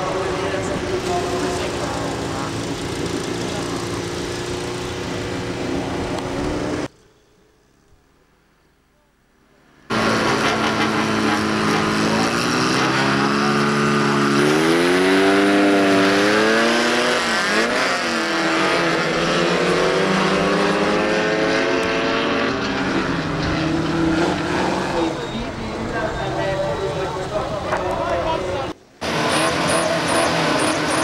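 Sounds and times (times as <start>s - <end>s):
race car engines revving: 0.0s - 6.9s, 9.8s - 31.0s.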